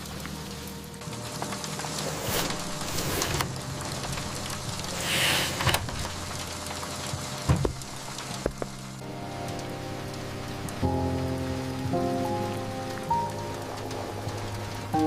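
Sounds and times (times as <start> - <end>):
soft background music: 0.0 - 15.0
steady rain: 0.0 - 15.0.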